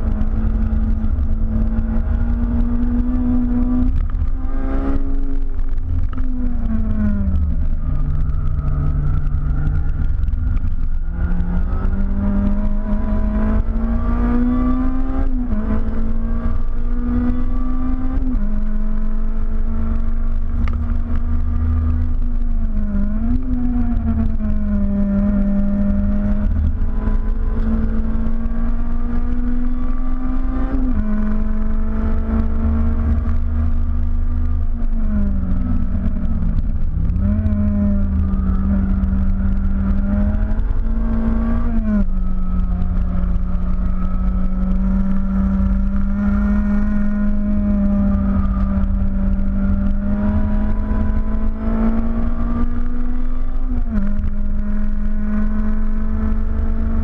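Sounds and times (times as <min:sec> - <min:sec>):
car engine revving: 0:00.0 - 0:57.0
low road and wind rumble: 0:00.0 - 0:57.0.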